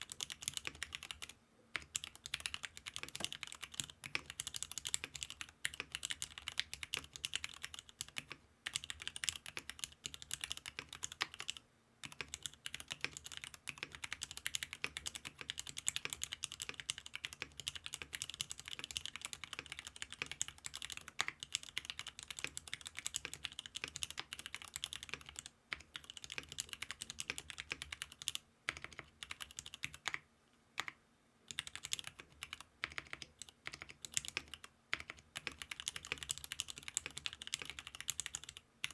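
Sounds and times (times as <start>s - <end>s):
fast mechanical keyboard typing: 0.0s - 30.2s, 30.8s - 38.9s.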